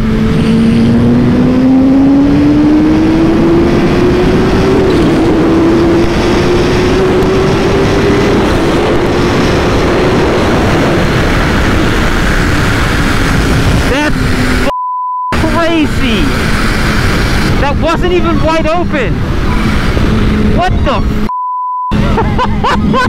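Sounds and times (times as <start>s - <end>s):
motorcycle engine accelerating: 0.0s - 14.7s, 15.4s - 18.2s, 18.9s - 21.3s
wind rush on microphone: 0.0s - 14.7s, 15.4s - 21.3s.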